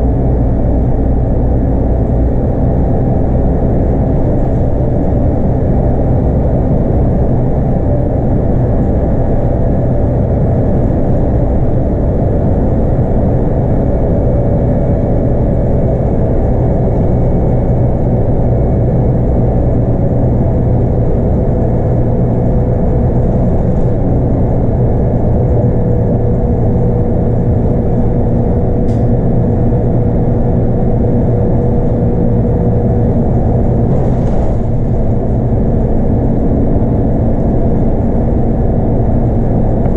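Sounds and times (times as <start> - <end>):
bus diesel engine running: 0.0 - 39.9
road and tyre noise: 0.0 - 39.9.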